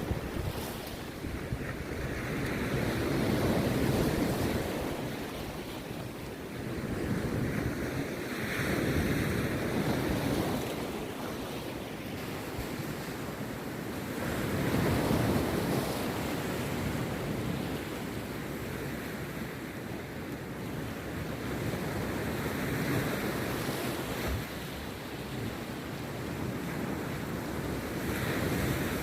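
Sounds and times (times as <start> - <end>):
sea surf breaking on beach: 0.0 - 29.0.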